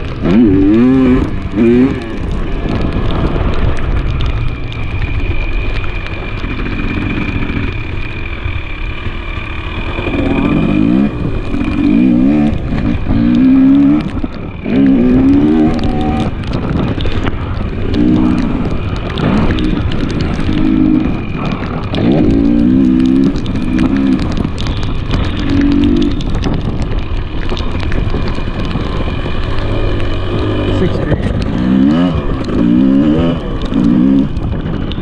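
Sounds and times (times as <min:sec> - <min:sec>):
two-stroke motorcycle engine revving: 0:00.0 - 0:35.0.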